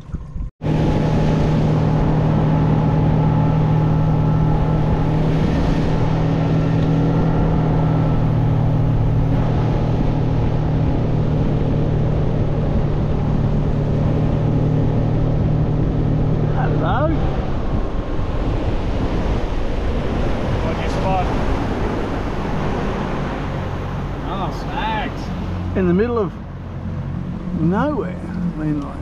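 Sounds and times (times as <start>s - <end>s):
constant noisy rush: 0.0s - 29.0s
outboard motor running: 0.0s - 29.0s.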